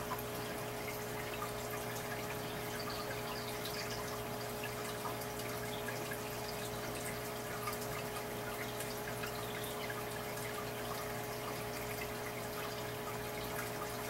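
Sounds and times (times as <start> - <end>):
water trickling and dripping: 0.0 - 14.0.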